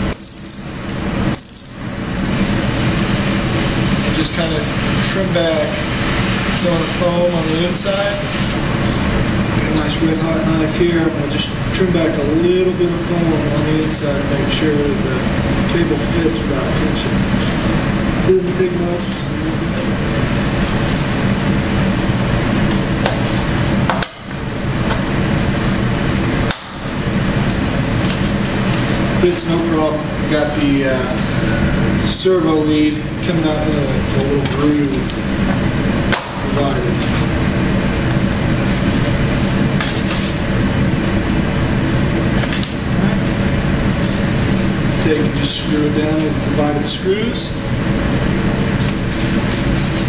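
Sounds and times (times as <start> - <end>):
steady machine hum: 0.0 - 50.0.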